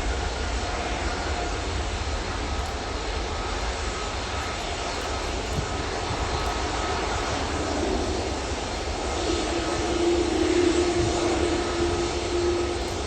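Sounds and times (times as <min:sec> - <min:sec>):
jet engines on take-off: 0:00.0 - 0:13.0.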